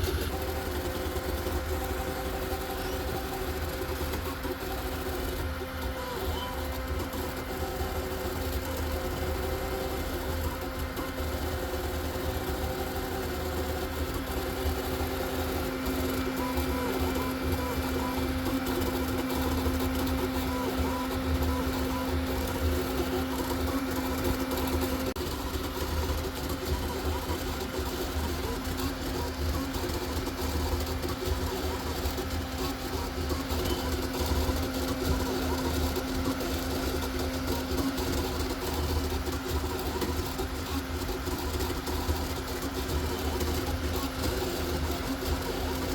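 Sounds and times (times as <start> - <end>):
stepper motors buzzing and whining: 0.0 - 45.9.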